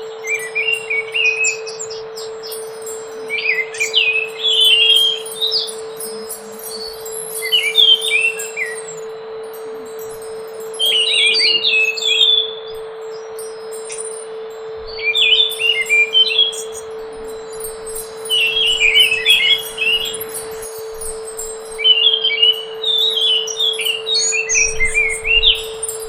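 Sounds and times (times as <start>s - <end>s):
steady low hum: 0.0s - 26.0s
thrush singing whistled notes: 0.0s - 26.0s.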